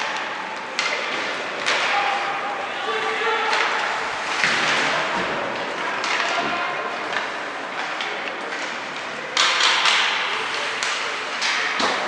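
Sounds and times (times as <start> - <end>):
faint voices: 0.0 - 12.0
steady noisy background: 0.0 - 12.0.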